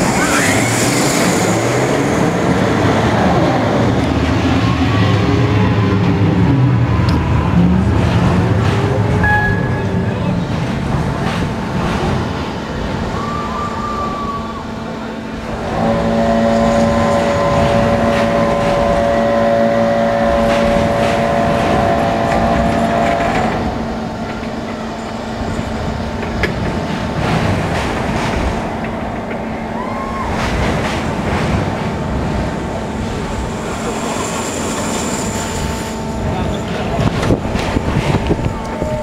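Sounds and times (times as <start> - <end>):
roller coaster rumbling on track: 0.0 - 39.0.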